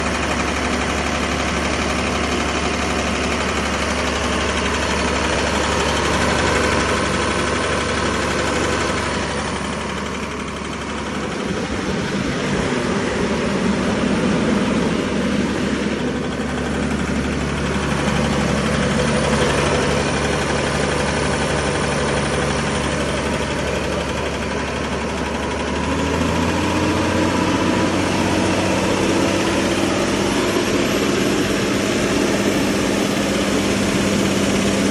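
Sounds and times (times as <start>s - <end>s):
air compressor running: 0.0s - 34.9s.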